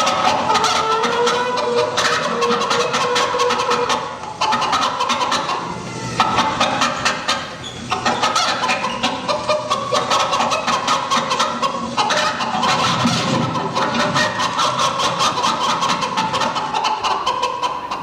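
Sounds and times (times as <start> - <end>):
chicken-like clucking: 0.0 - 18.0.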